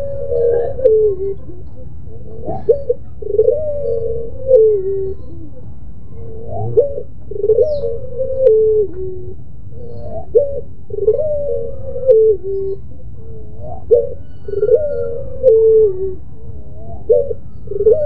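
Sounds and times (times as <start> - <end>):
dove cooing: 0.0 - 18.0
steady low hum: 0.0 - 18.0.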